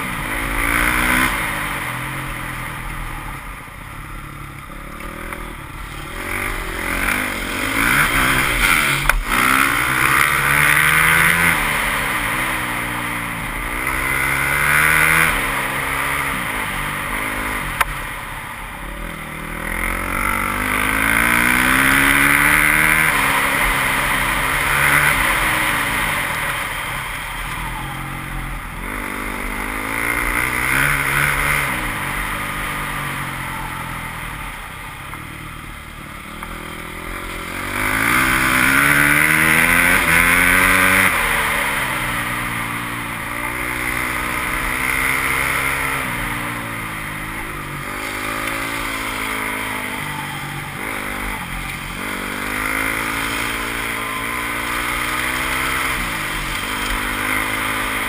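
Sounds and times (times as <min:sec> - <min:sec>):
dirt bike engine accelerating: 0:00.0 - 0:58.0.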